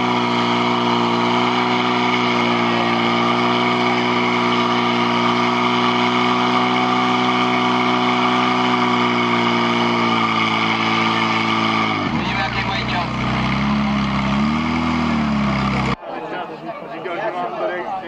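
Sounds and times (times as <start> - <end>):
fire pump engine at high revs: 0.0 - 16.0.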